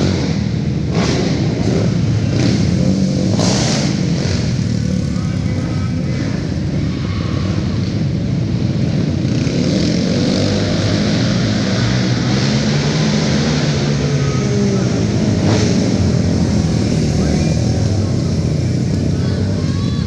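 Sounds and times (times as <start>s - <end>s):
quad racing engines revving: 0.0s - 20.0s.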